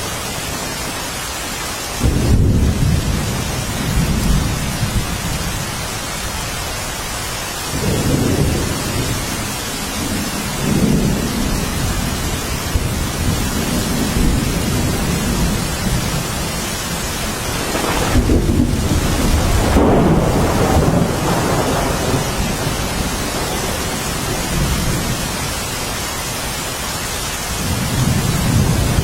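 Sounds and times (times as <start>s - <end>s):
rain hissing: 0.0s - 29.0s
low rolling thunder: 2.0s - 7.0s, 7.7s - 25.9s, 27.5s - 29.0s.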